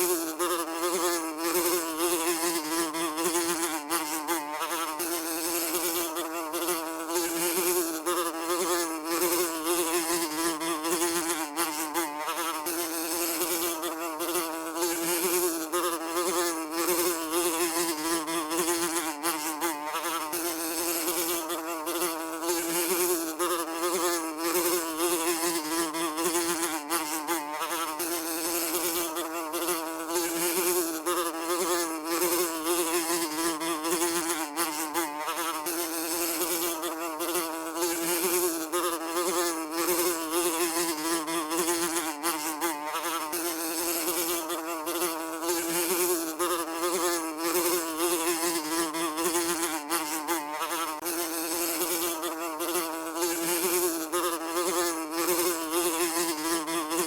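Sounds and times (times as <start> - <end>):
fly buzzing: 0.0 - 57.0.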